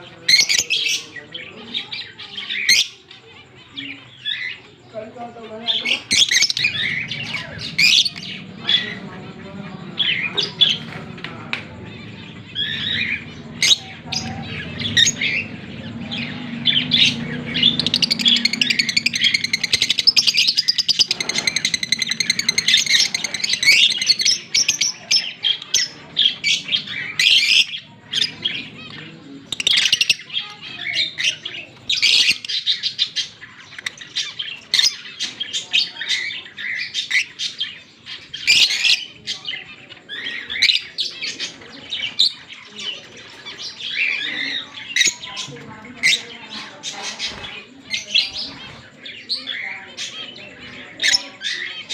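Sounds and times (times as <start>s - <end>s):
lovebirds chirping and squawking: 0.0s - 51.9s.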